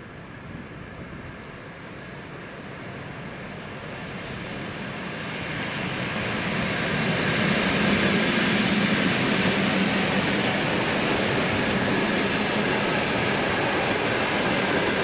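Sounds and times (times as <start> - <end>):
electric train approaching: 0.0 - 15.0.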